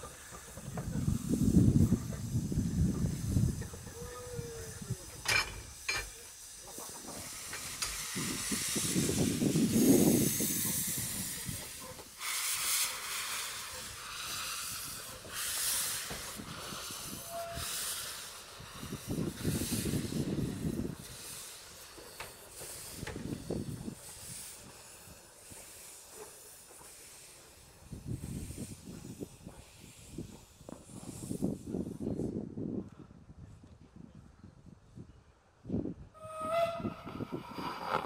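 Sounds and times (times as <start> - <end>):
steam locomotive hissing: 0.0 - 32.6, 36.2 - 38.0.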